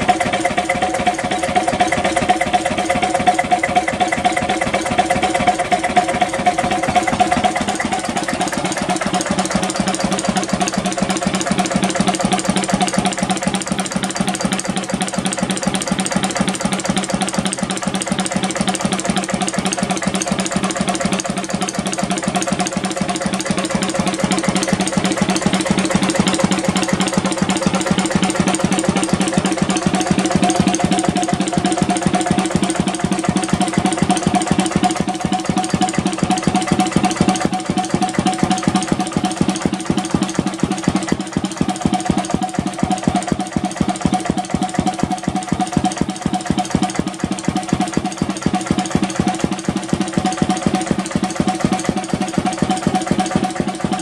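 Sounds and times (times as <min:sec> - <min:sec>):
diesel stationary engine running: 0:00.0 - 0:54.0.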